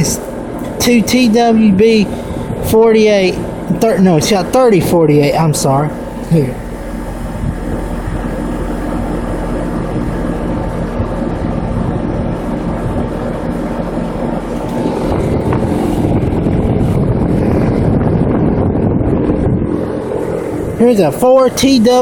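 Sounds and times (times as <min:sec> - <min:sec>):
compressor hum: 0:00.0 - 0:22.0
condenser fan rushing: 0:00.0 - 0:22.0.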